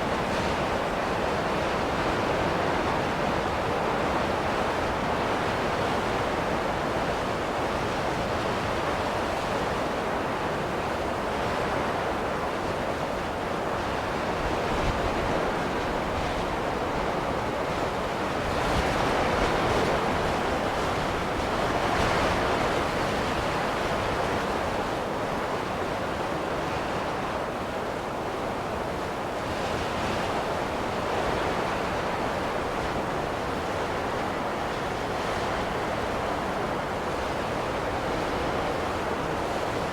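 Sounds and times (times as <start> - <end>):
rushing wind of a snowstorm: 0.0 - 39.9.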